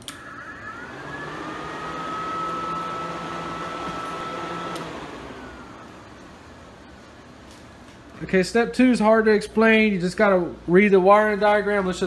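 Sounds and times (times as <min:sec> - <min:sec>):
cooling fans whining: 0:00.0 - 0:12.0.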